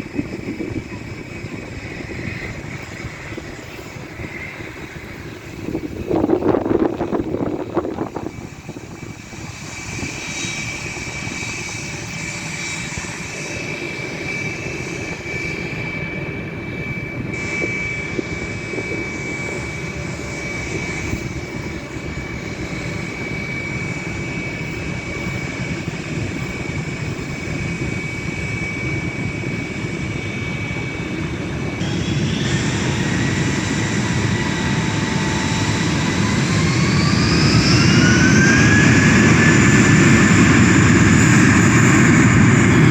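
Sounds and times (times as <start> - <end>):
jet engines whining: 0.0 - 42.9.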